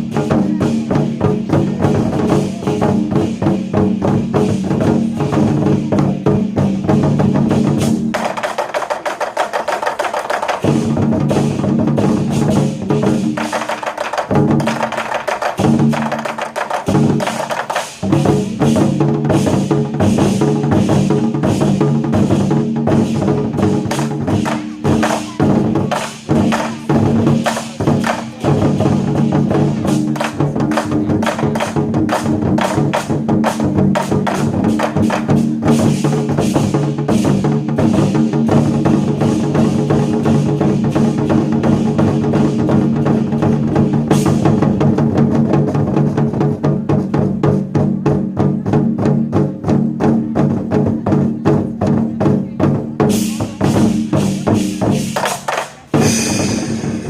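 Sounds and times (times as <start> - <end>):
war drums beaten with sticks: 0.0 - 57.0.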